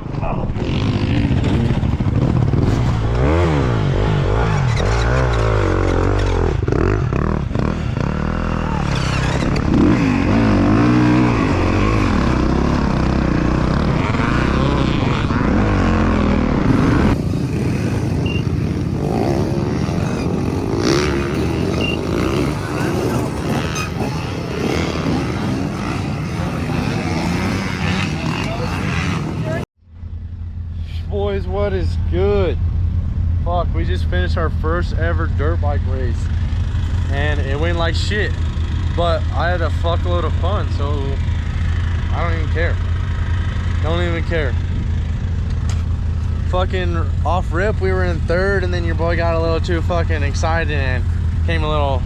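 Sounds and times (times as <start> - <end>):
dirt bike engine revving: 0.5 - 29.6, 31.2 - 52.0.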